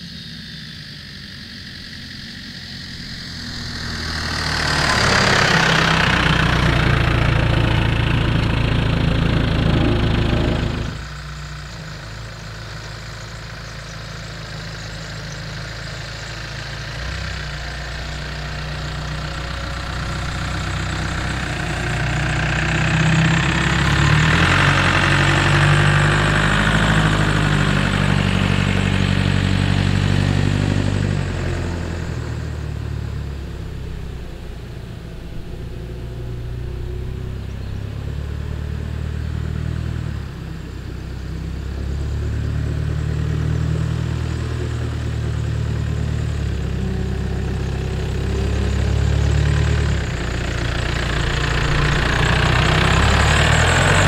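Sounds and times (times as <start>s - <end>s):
military vehicle driving past: 0.0s - 54.0s.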